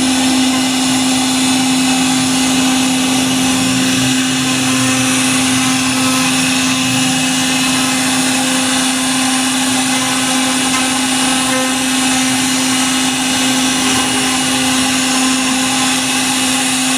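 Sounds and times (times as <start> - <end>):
router spindle cutting wood: 0.0 - 16.9.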